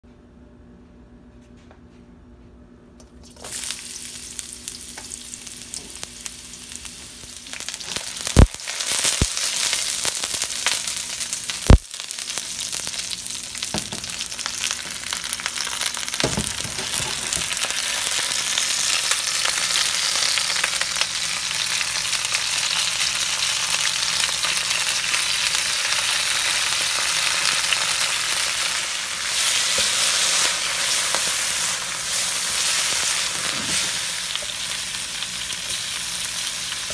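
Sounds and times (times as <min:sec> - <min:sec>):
oil sizzling in a wok: 0:03.2 - 0:36.9.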